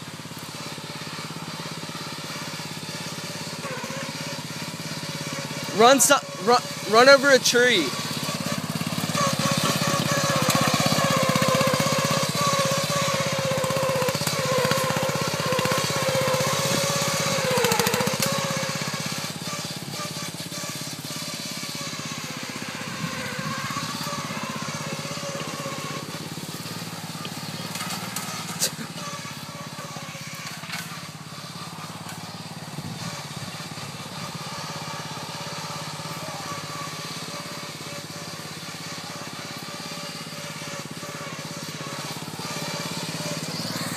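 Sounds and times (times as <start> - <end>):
lawn tractor engine running: 0.0 - 43.9.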